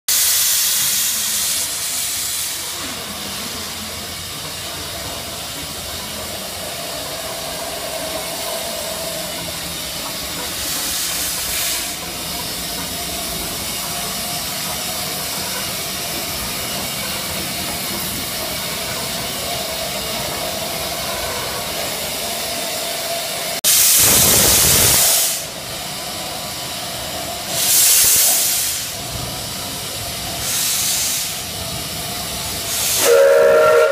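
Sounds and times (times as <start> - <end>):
loud steam blasts: 0.1 - 33.9
steam locomotive hissing: 0.1 - 33.9.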